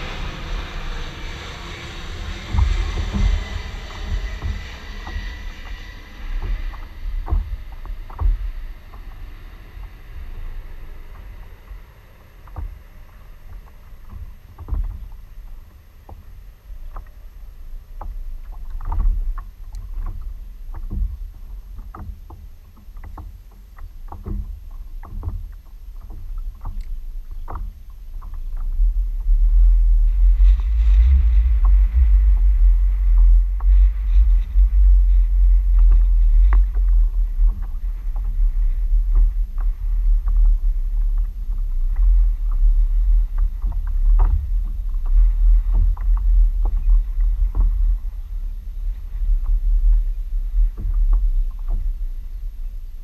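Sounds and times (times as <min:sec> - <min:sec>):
steady low rumble: 0:00.0 - 0:53.0
waves slapping kayak hull: 0:00.0 - 0:53.0.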